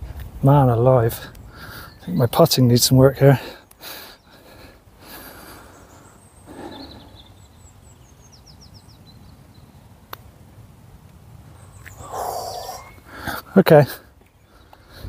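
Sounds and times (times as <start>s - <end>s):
birds singing: 0.9s - 10.1s, 11.4s - 15.0s.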